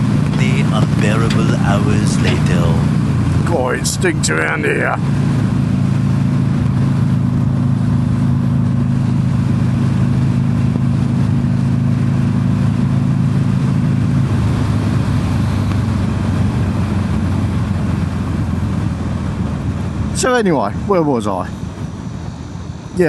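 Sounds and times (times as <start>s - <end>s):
motorcycle engine cruising: 0.0s - 23.0s
wind noise: 0.0s - 23.0s.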